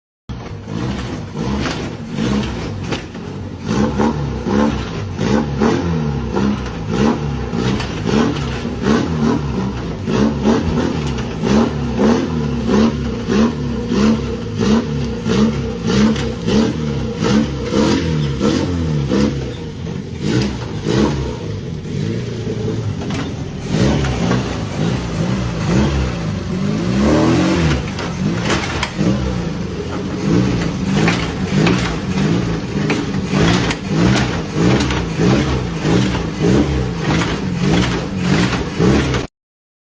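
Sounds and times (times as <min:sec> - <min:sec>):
car engine revving: 0:00.3 - 0:39.3
engine knocking and rattling: 0:00.3 - 0:39.3.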